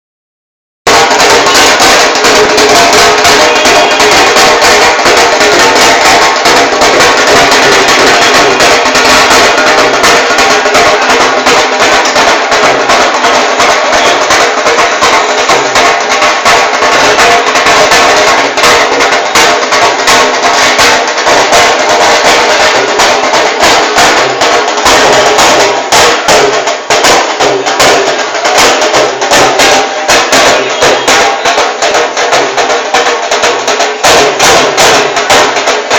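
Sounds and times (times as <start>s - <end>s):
percussion-led music: 0.8s - 35.9s.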